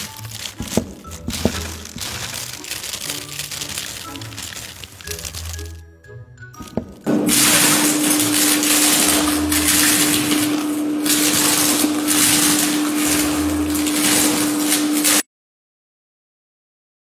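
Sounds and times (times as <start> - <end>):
feet crunching on chips: 0.0 - 5.9, 6.6 - 15.2.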